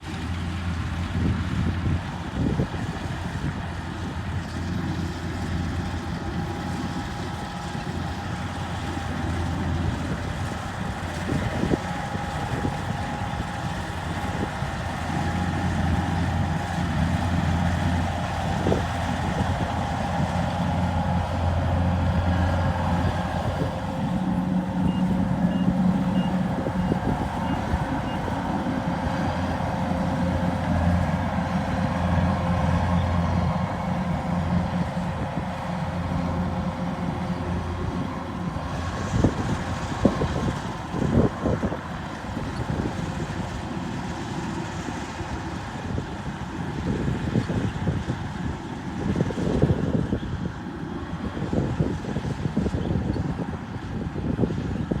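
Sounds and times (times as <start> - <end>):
harvester engine running: 0.0 - 55.0.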